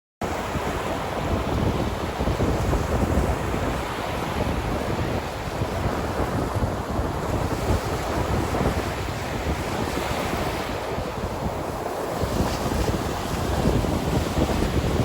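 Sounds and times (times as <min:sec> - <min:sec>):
sea waves washing on shore: 0:00.2 - 0:15.0
wind blowing: 0:00.2 - 0:15.0.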